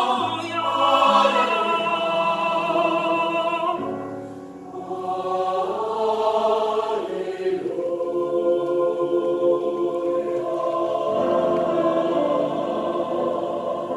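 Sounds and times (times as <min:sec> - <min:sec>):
choir singing held chords: 0:00.0 - 0:13.9.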